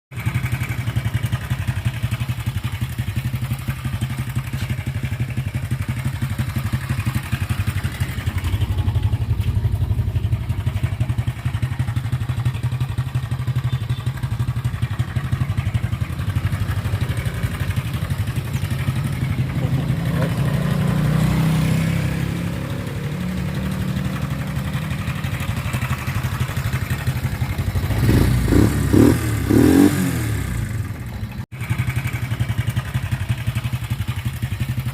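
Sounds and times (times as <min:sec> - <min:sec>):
scooter engine idling and revving: 0:00.1 - 0:34.9.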